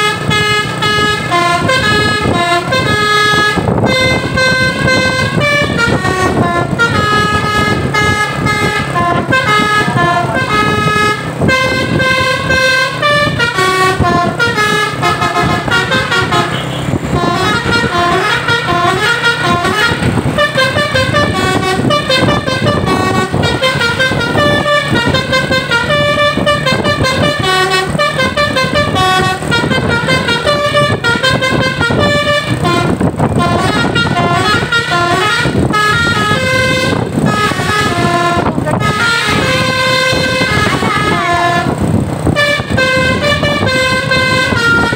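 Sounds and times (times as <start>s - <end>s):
multi-tone air horn tune: 0.0s - 44.9s.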